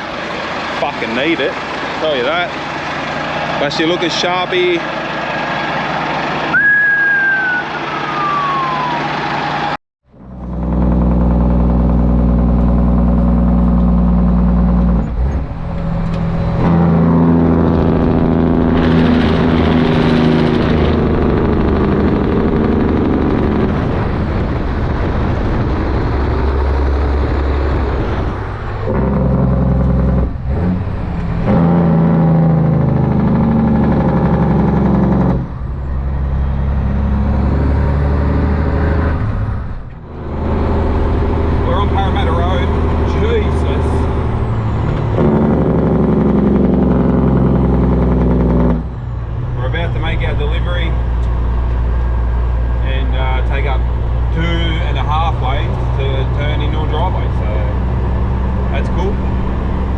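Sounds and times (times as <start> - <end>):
truck diesel engine shifting gears: 0.0 - 59.9.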